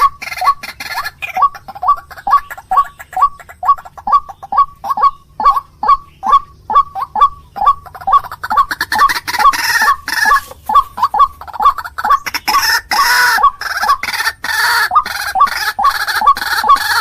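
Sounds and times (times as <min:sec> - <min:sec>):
harsh rasping bird calls: 0:00.0 - 0:17.0.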